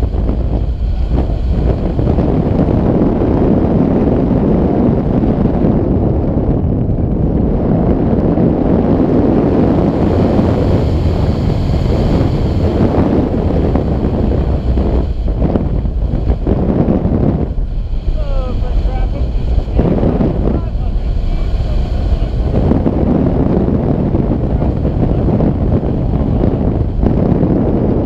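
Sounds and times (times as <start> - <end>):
wind rumble and buffeting: 0.0 - 28.0.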